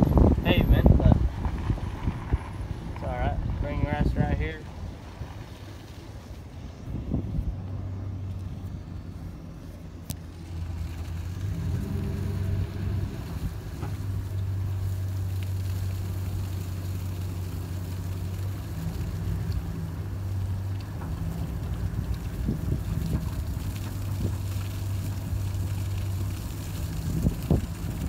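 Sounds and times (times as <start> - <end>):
truck engine low drone: 0.0 - 28.0.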